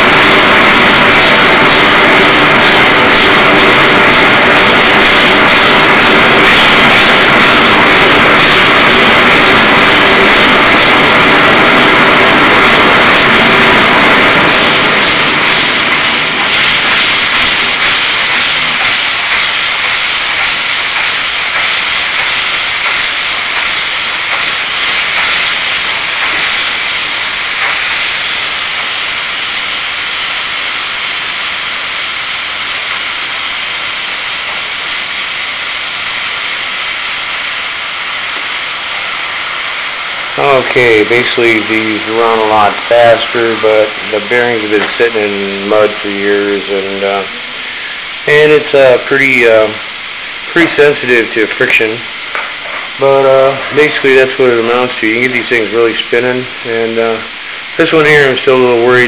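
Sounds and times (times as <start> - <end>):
steam hissing from jets: 0.0 - 59.0
torch flame rumble: 0.0 - 59.0.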